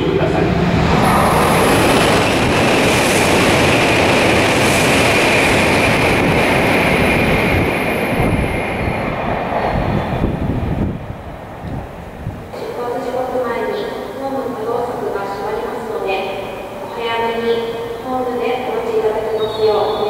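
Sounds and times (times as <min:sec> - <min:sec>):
high-speed train passing: 0:00.0 - 0:20.0.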